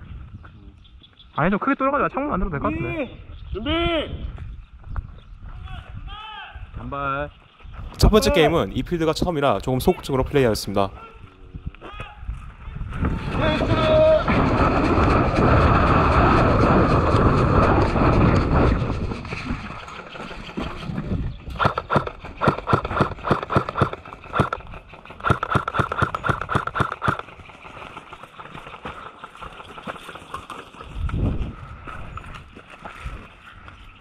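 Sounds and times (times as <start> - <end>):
wind rumble on microphone: 0.0 - 1.1, 2.3 - 28.2, 30.8 - 34.0.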